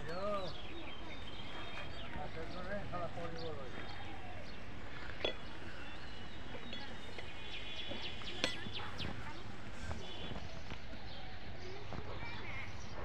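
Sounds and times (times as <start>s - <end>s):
birds chirping: 0.0s - 13.0s
steady outdoor noise: 0.0s - 13.0s.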